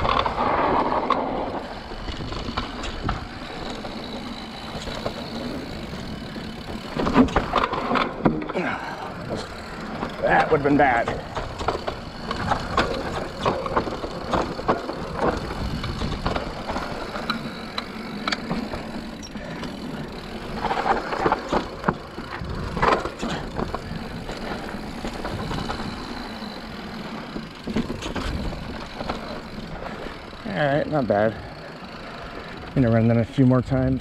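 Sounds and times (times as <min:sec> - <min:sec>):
bike rattling and knocking: 0:00.0 - 0:34.0
bike tyres on dirt and rock: 0:00.0 - 0:34.0.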